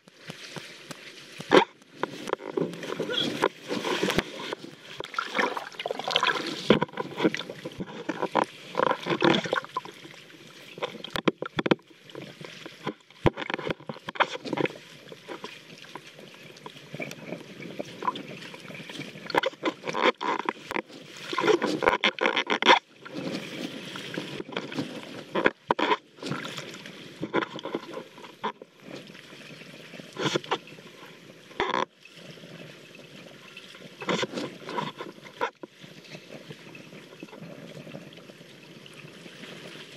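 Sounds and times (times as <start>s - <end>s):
water splashing and sloshing: 0.0s - 39.9s.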